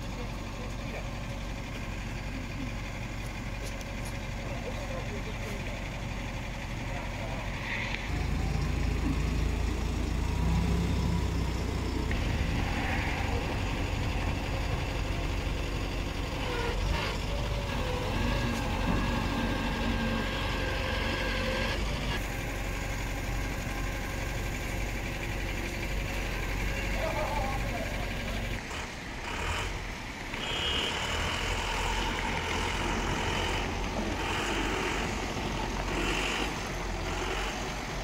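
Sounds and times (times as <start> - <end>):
truck engine running at low revs: 0.0 - 38.0.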